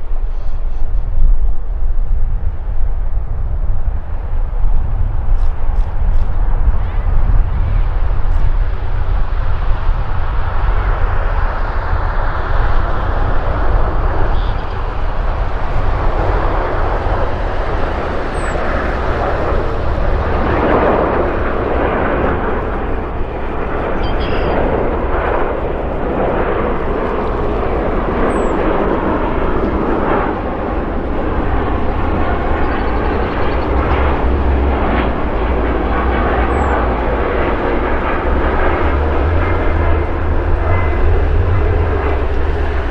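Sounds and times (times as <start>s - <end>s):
deep rumble: 0.0s - 42.9s
jet engine roar: 0.0s - 42.9s.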